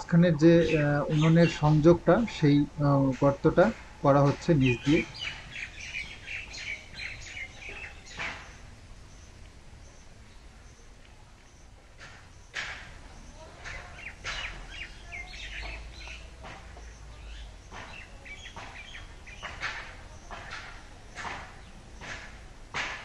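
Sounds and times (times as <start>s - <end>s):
birds chirping faintly: 0.0s - 22.7s.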